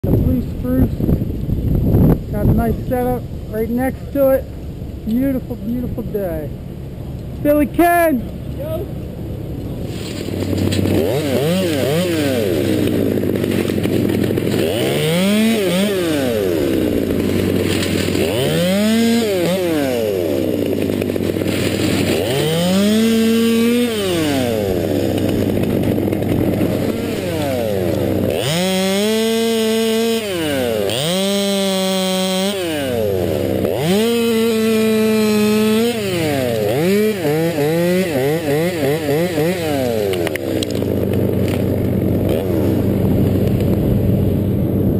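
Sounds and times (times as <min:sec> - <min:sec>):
chainsaw revving: 0:07.4 - 0:44.9.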